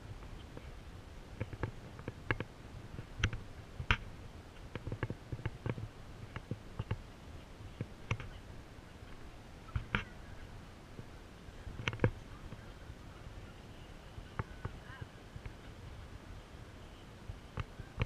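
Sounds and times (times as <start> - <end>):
low muffled rumble: 0.0 - 18.0.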